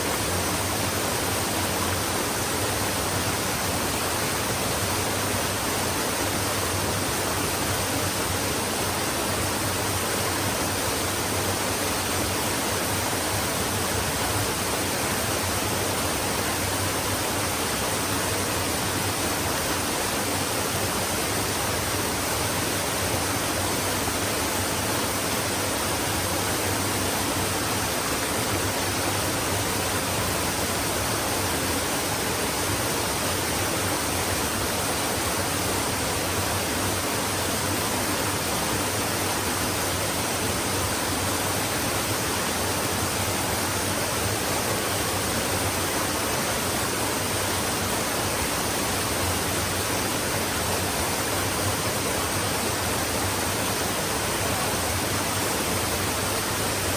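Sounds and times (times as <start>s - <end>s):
stream running water: 0.0s - 56.9s.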